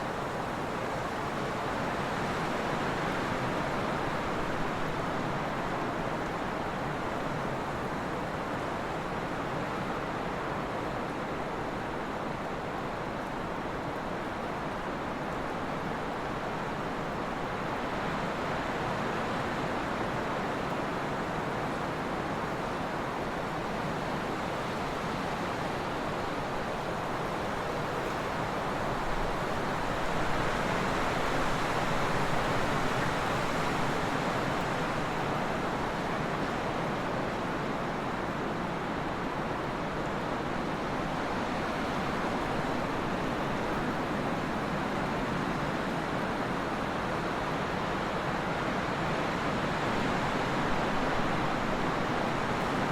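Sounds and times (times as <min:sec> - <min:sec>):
wind blowing steadily: 0:00.0 - 0:52.9.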